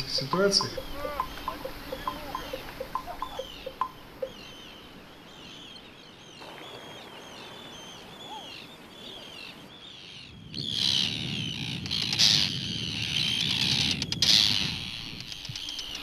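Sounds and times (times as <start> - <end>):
seabirds calling: 0.0 - 16.0.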